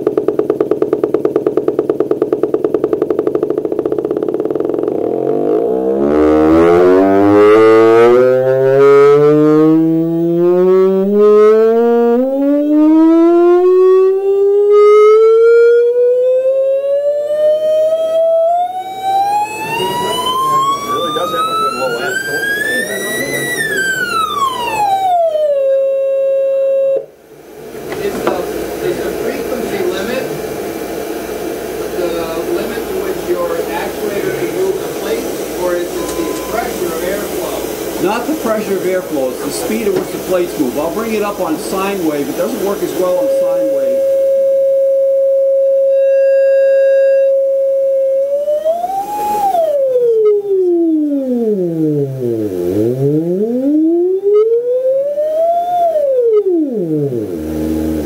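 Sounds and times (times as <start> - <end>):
air amplifier siren-like buzzing tone: 0.0 - 58.0.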